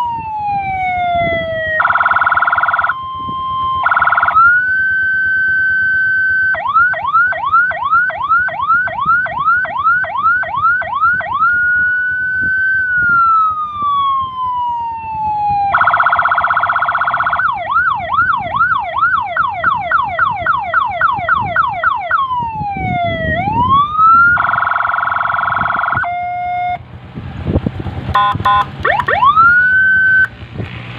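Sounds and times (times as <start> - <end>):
electronic siren switching tones: 0.0 - 26.8, 28.1 - 30.3.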